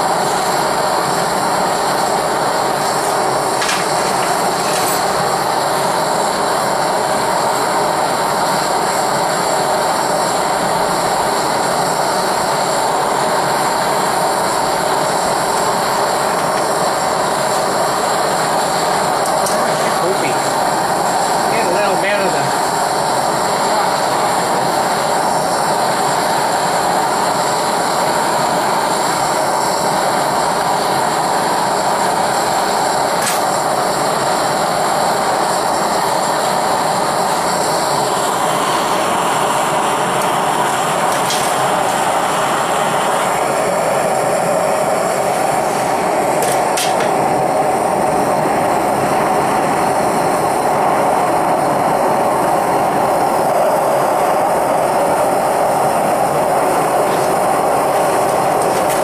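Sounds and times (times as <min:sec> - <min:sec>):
torch flame rushing: 0:00.0 - 0:59.0.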